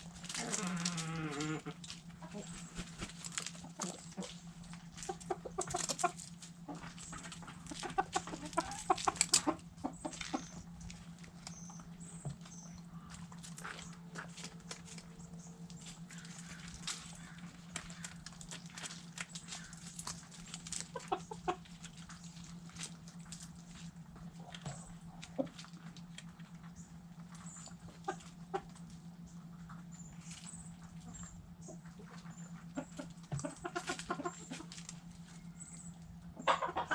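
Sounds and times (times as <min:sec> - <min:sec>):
hens clucking: 0:00.0 - 0:36.9
low hum: 0:00.0 - 0:36.9.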